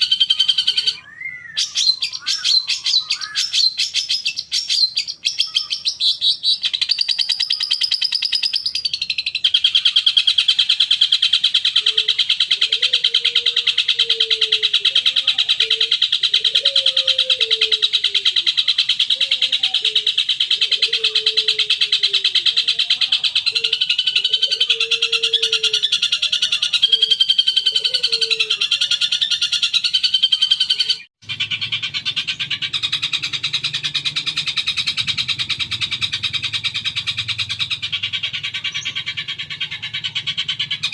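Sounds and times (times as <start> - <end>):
high buzzing bird trill: 0.0 - 40.9
lower bird warbling: 0.0 - 40.9.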